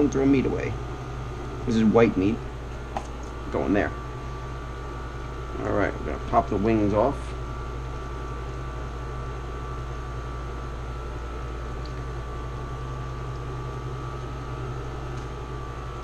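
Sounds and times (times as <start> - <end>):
air conditioner hum and rushing: 0.0 - 16.0.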